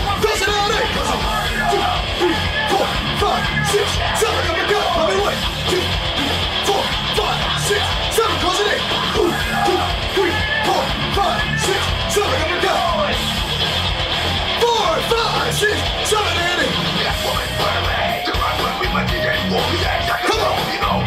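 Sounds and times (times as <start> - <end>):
hard rock music with yelled vocals: 0.0 - 21.0.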